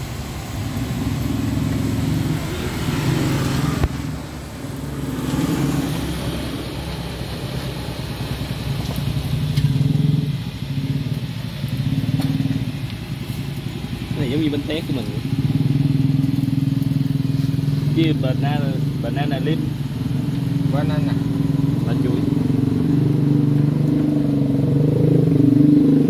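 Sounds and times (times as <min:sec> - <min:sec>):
motorcycle engines running: 0:00.0 - 0:26.0.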